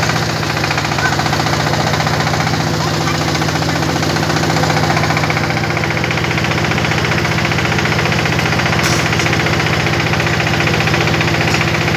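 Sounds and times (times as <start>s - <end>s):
machine engine fast beat: 0.0s - 11.9s.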